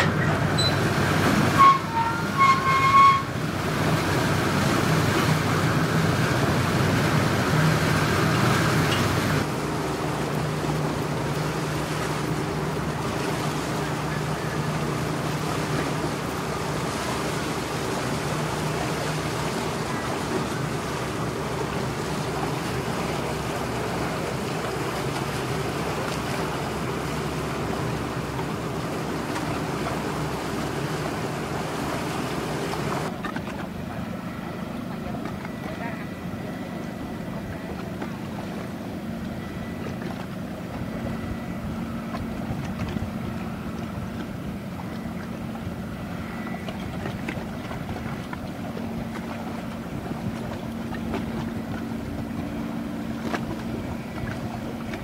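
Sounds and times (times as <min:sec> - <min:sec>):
boat engines droning: 0:00.0 - 0:55.0
choppy water wash: 0:00.0 - 0:55.0.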